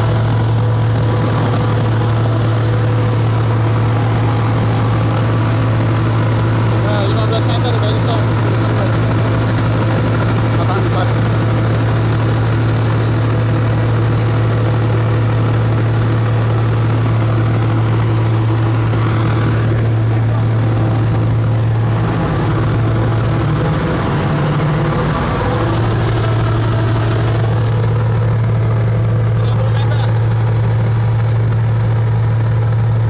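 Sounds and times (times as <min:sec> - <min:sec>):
low-pitched mechanical hum: 0:00.0 - 0:33.0.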